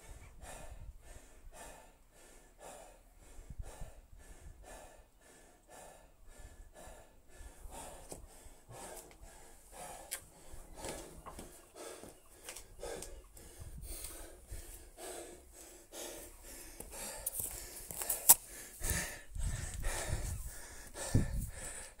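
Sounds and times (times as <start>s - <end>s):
man panting: 0.0s - 22.0s.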